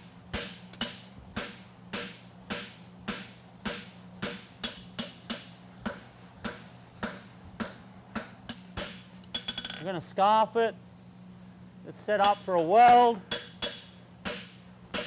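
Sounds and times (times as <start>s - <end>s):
hammer striking steel on anvil: 0.3s - 9.8s, 12.2s - 15.0s.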